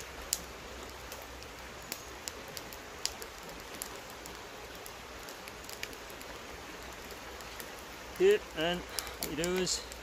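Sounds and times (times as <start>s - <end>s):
stream rushing: 0.0s - 10.0s.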